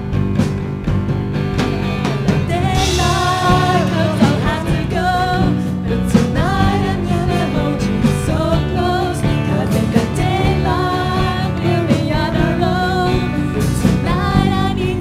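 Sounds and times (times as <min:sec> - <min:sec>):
drum kit: 0:00.0 - 0:15.0
sustained band instruments: 0:00.0 - 0:15.0
person singing: 0:02.4 - 0:15.0.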